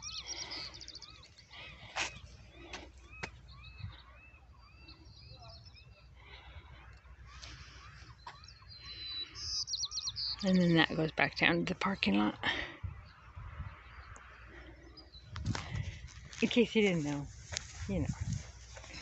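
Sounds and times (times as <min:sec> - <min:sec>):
birds singing faintly: 0:00.0 - 0:19.0.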